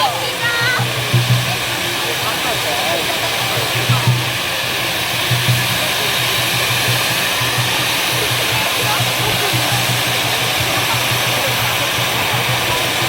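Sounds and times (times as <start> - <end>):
fountain fireworks hissing: 0.0 - 13.0
pulsing low hum: 0.0 - 13.0.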